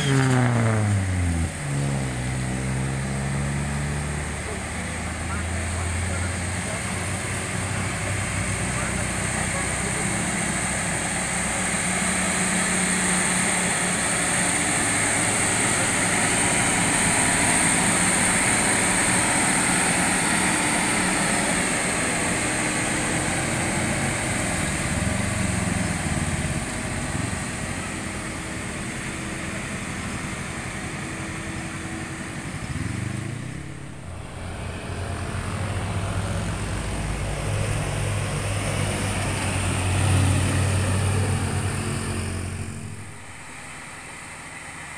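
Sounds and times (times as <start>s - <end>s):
motorcycles passing: 0.0s - 43.6s
diesel trucks climbing: 0.0s - 44.9s.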